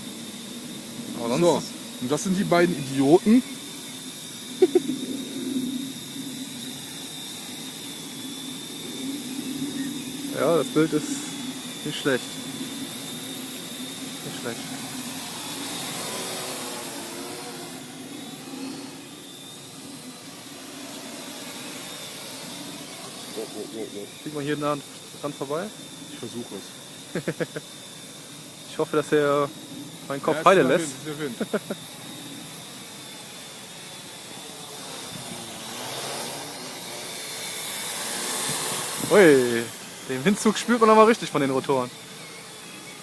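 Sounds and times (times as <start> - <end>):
drone rotors buzzing: 0.0 - 43.0
high motor whine: 0.0 - 43.0.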